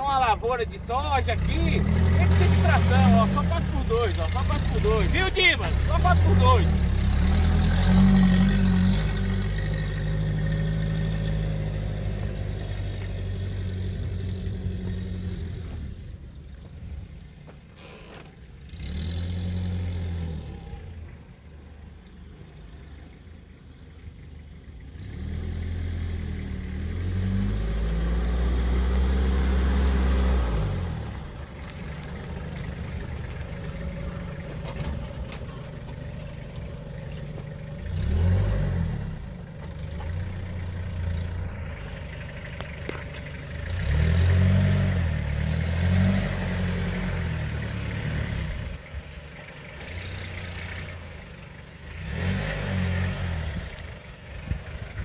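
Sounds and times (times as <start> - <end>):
diesel engine revving under load: 0.0 - 16.2, 17.8 - 21.2, 22.4 - 55.0.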